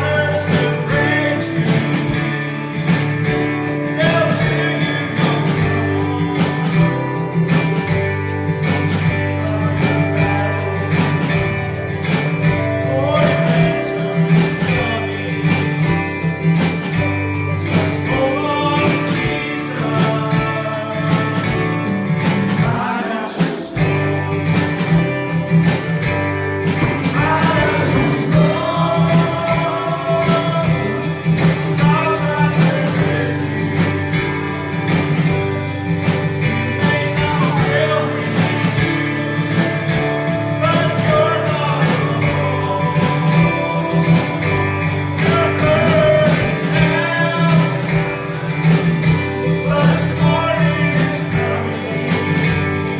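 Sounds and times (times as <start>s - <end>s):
country-rock worship music: 0.0s - 52.9s
guitar strumming: 0.0s - 52.9s.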